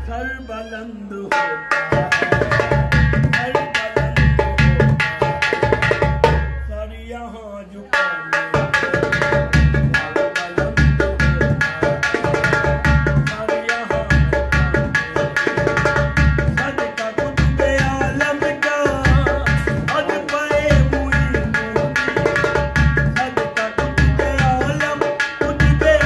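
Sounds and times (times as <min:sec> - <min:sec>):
man singing: 0:00.0 - 0:26.0
drum beaten with sticks: 0:01.3 - 0:06.7, 0:07.9 - 0:26.0.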